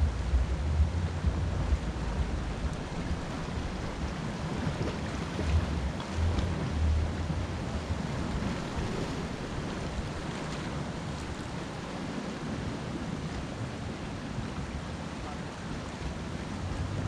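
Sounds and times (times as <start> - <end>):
surf washing against rocks: 0.0 - 17.0
wind buffeting microphone: 0.0 - 17.0.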